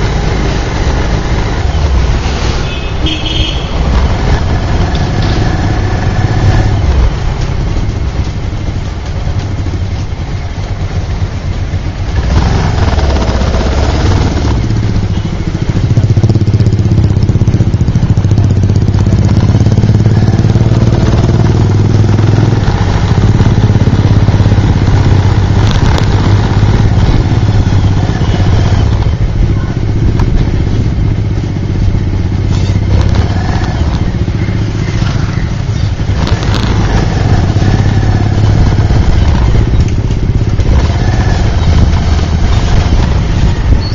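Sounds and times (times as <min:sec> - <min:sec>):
motorbike engine droning: 0:00.0 - 0:43.9.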